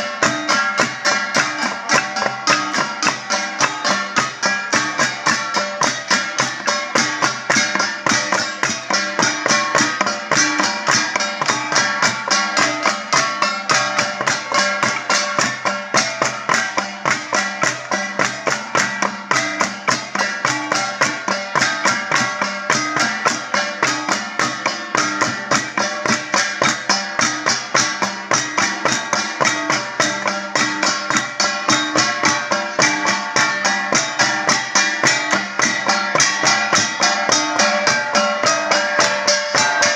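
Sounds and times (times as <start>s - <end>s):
gongs struck in fast beat: 0.0s - 39.9s.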